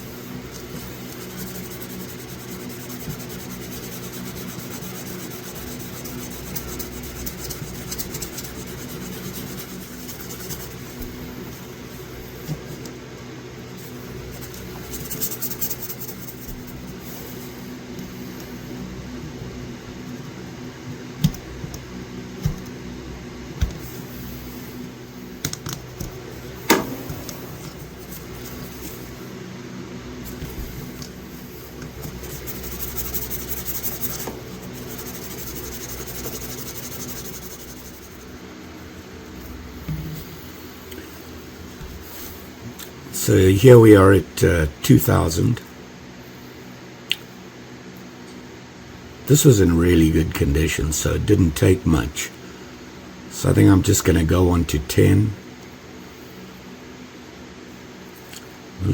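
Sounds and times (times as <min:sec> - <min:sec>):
low mechanical hum: 0:00.0 - 0:58.9.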